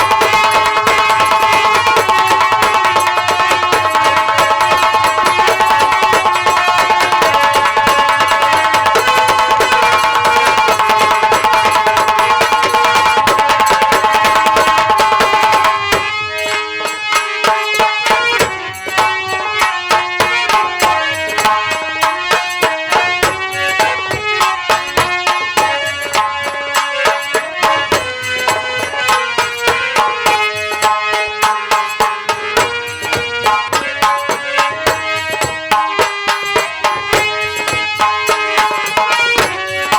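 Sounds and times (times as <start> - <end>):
fast drumming: 0.0 - 39.9
instrumental folk melody: 0.0 - 39.9.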